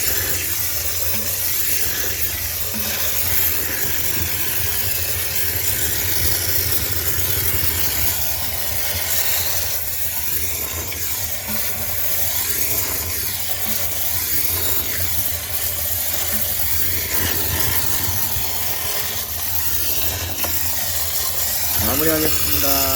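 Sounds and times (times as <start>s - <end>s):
steam cleaner hissing: 0.0s - 22.9s.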